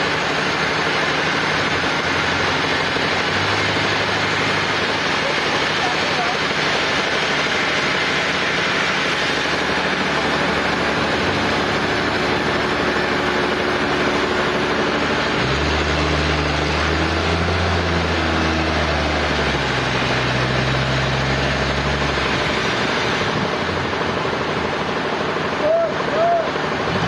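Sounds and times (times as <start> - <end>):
deep engine hum: 0.0 - 27.0
sawmill machinery running: 0.0 - 27.0.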